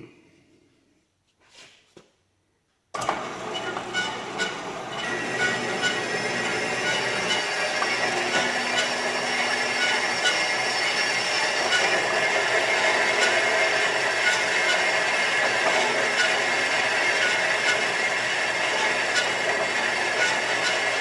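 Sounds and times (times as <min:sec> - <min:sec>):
electric grinder on metal: 0:03.0 - 0:21.0.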